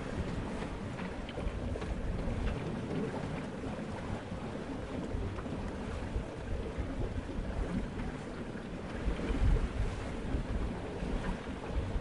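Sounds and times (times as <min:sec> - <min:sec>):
water rushing along a hull: 0:00.0 - 0:12.0
wind gusting on microphone: 0:00.0 - 0:12.0.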